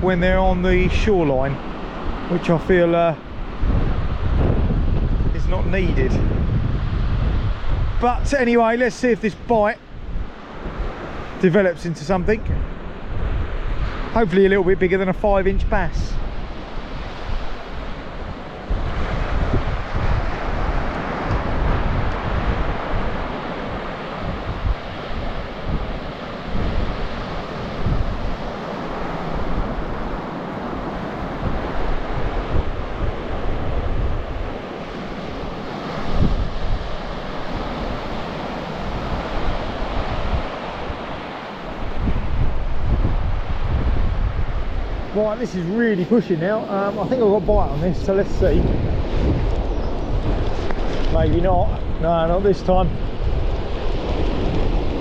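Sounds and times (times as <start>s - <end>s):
surf breaking on beach: 0.0s - 55.0s
wind buffeting microphone: 0.0s - 55.0s.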